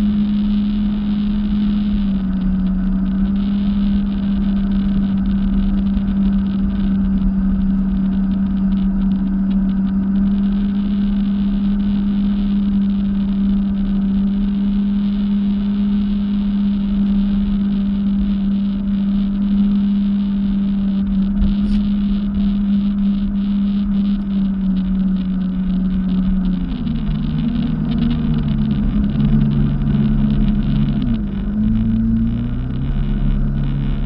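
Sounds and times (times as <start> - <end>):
jet ski engine drone: 0.0 - 34.0
wash of noise: 0.0 - 34.0.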